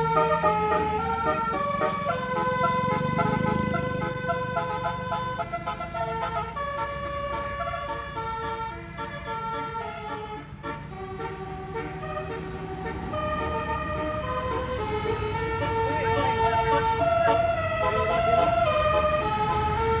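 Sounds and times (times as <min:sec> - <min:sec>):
bus engine running: 0:00.0 - 0:20.0
musical bus air horn: 0:00.0 - 0:20.0.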